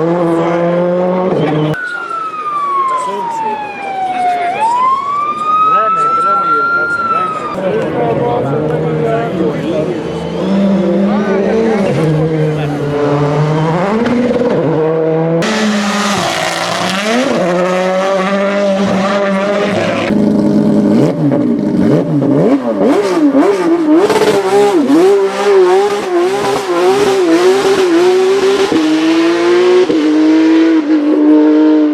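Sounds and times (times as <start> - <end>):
rally car engines revving: 0.0 - 1.8, 5.6 - 31.9.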